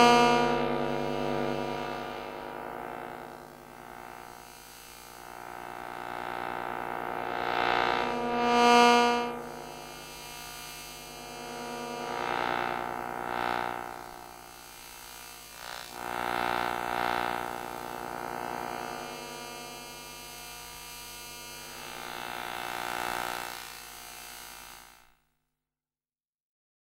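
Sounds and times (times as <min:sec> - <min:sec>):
electrical hum and buzz: 0:00.0 - 0:25.0.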